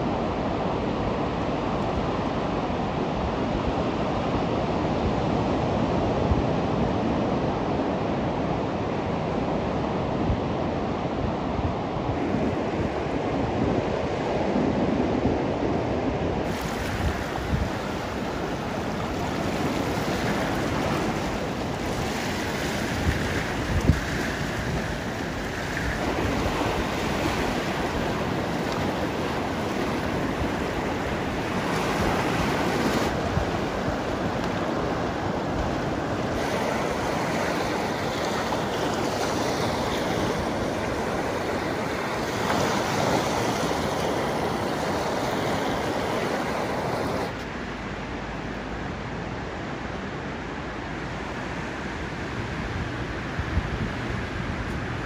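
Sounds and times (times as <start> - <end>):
small waves lapping on shore: 0.0 - 55.0
wind gusting on microphone: 0.0 - 55.0.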